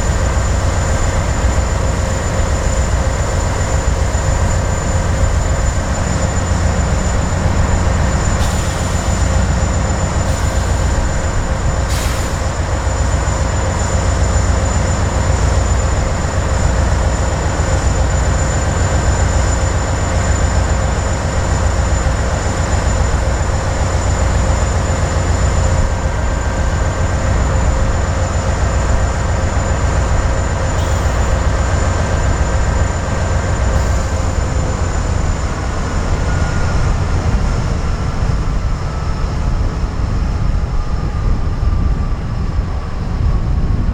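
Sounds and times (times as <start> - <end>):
train rumbling past: 0.0 - 43.9.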